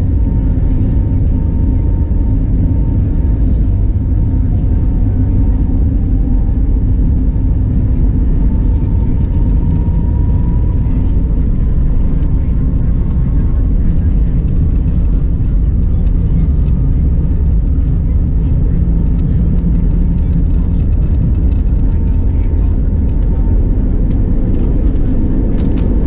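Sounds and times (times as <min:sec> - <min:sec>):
faint engine whine: 0:00.0 - 0:26.0
jet engine cabin rumble: 0:00.0 - 0:26.0.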